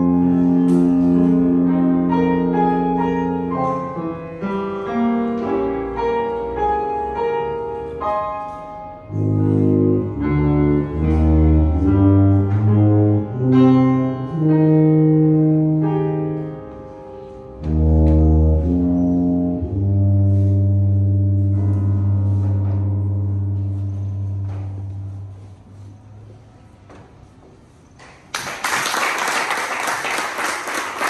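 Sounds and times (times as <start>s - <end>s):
low tuba notes: 0.0s - 26.0s
piano chords: 0.0s - 27.3s.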